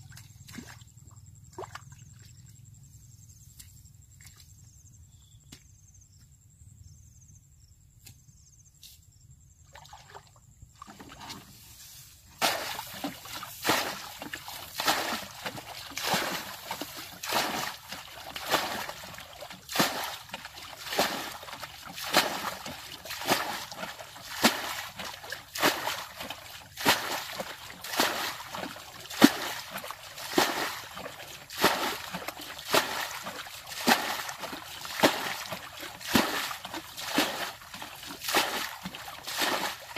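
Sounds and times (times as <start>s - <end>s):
water sloshing and splashing: 0.0s - 2.6s, 9.6s - 39.9s.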